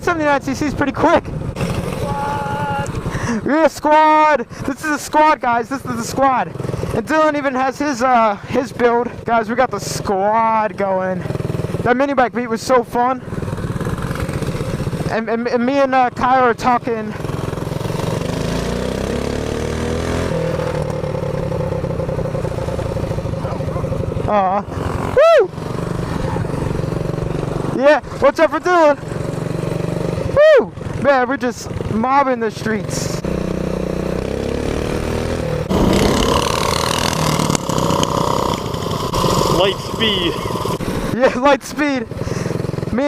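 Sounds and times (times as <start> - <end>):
small motorbike engine running: 0.4 - 3.6, 4.4 - 43.0.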